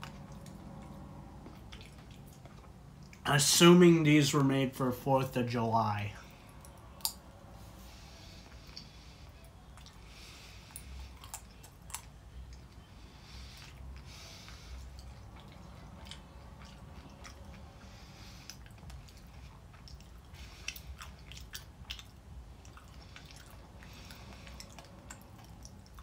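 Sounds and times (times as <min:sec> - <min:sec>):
person chewing candy: 0:00.0 - 0:03.3, 0:06.3 - 0:26.0.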